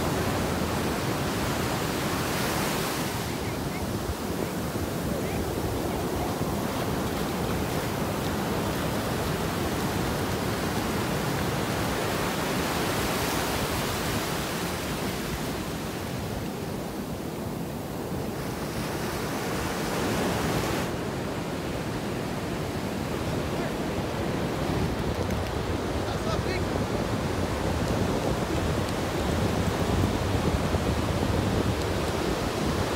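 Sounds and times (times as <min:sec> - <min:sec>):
ocean surf on beach: 0:00.0 - 0:32.9
wind on microphone: 0:00.0 - 0:32.9.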